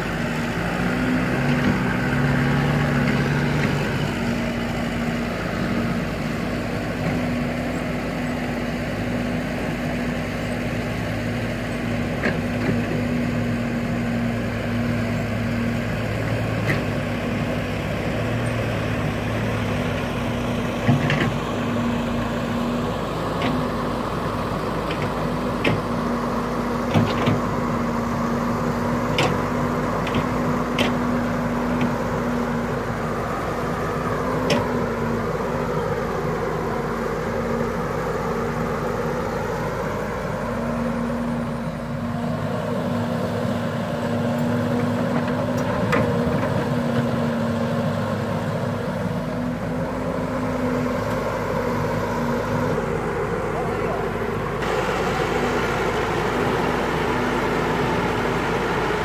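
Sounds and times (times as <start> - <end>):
diesel engines humming: 0.0 - 59.0.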